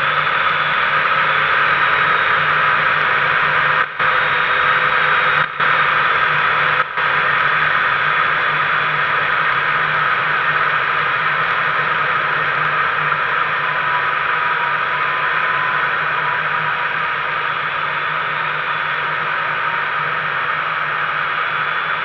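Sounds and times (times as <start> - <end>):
microlight engine and propeller: 0.0 - 22.0.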